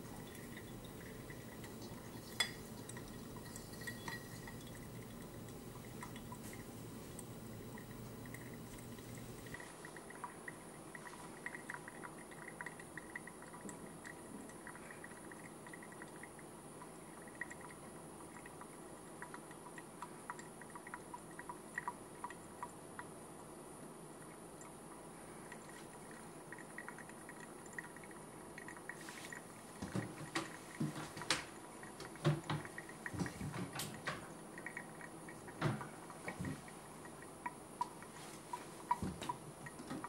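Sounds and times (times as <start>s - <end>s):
coffee dripping into mug: 0.0s - 23.1s, 24.6s - 40.0s.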